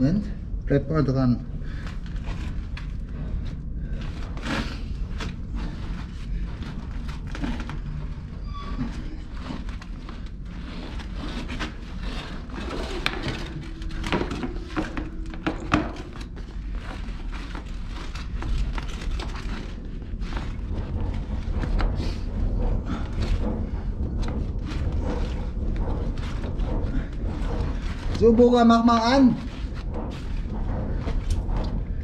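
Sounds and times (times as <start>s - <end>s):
low rumble: 0.0s - 32.0s
hose scraping and knocking in pipe: 1.6s - 32.0s.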